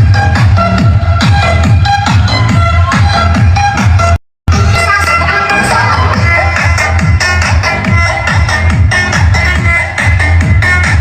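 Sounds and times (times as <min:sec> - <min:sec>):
electronic dance music with heavy bass: 0:00.0 - 0:11.0.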